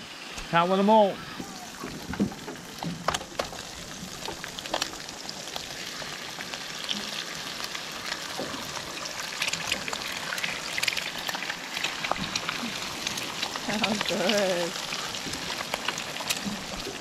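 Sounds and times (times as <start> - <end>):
bacon sizzling in frying pan: 0.1 - 17.0.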